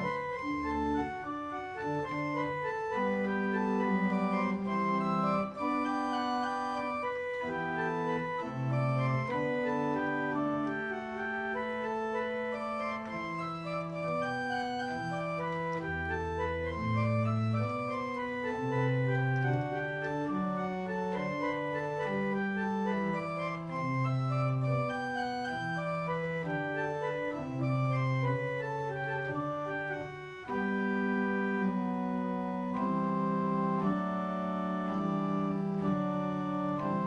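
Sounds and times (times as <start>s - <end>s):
pipe organ playing: 0.0s - 37.0s.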